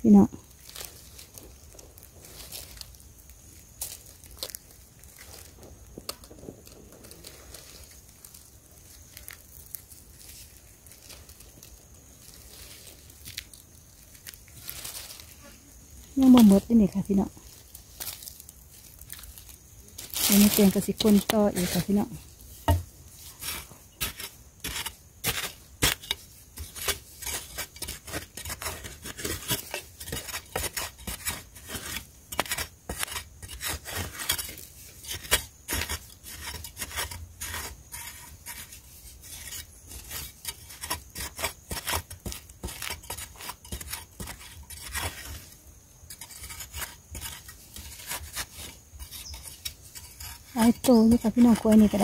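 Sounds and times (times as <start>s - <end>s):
shovel scraping into dry soil: 0.6s - 3.0s, 3.8s - 15.6s, 16.2s - 52.0s.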